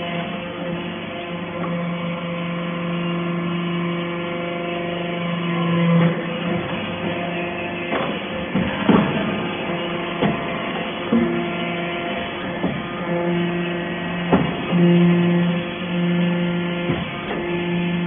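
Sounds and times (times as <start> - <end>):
baling machinery humming: 0.0 - 18.0.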